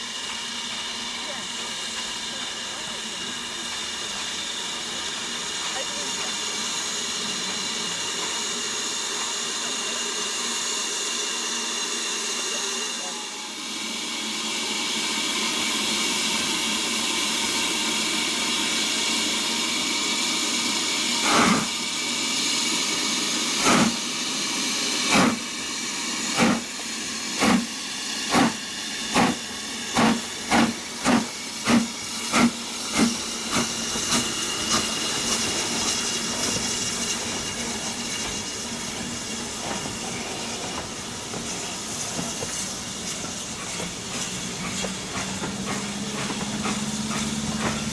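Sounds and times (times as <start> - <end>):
steam locomotive hissing: 0.0 - 47.9.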